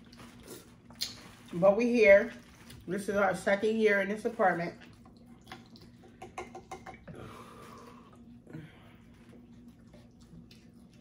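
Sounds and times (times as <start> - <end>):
faint eating sounds: 0.0 - 11.0.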